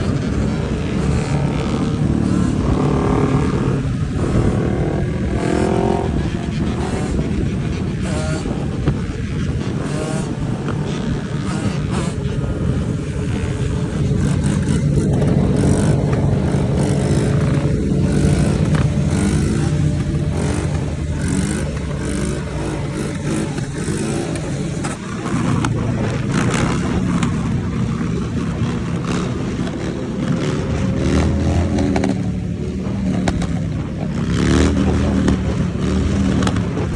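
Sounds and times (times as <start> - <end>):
motorbike engines revving: 0.0 - 36.9.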